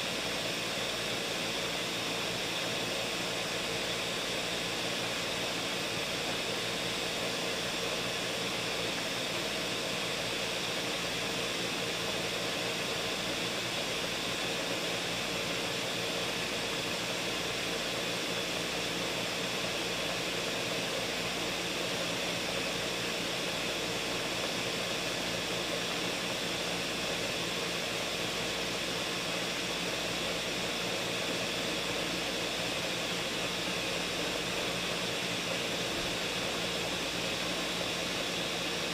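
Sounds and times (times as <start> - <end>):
blender whirring: 0.0 - 38.9.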